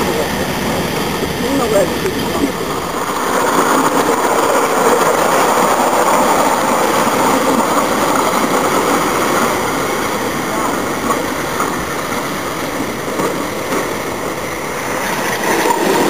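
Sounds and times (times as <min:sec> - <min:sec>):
miniature steam train rolling past: 0:00.0 - 0:16.0.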